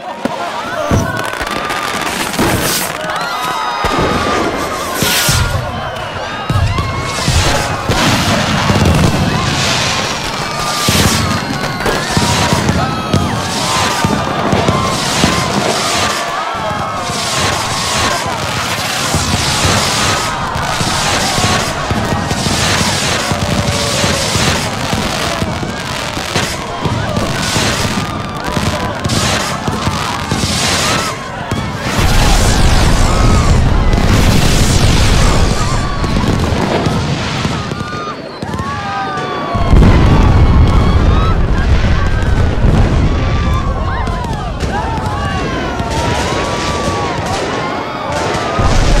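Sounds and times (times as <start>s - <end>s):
fireworks bangs and booms: 0.0s - 49.0s.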